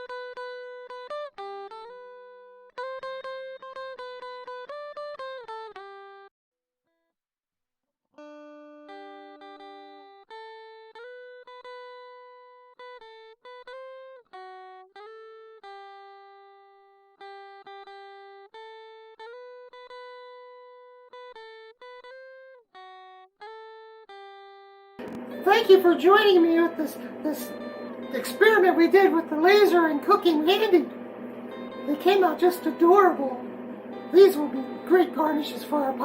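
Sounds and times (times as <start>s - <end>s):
plucked guitar melody: 0.0s - 6.3s, 8.8s - 36.0s.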